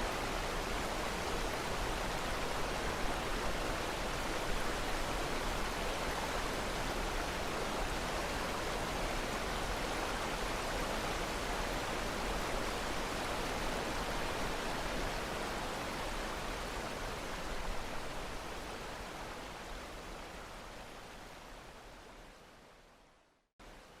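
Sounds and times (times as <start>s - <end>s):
rushing water: 0.0s - 23.0s, 23.6s - 24.0s.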